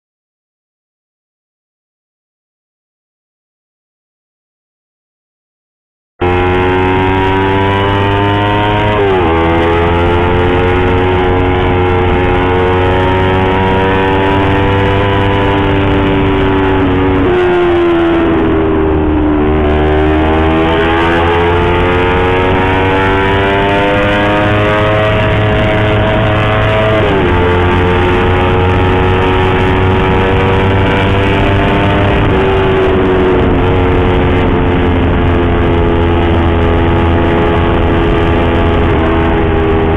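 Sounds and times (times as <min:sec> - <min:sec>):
motorcycle engine running: 0:06.2 - 0:39.9.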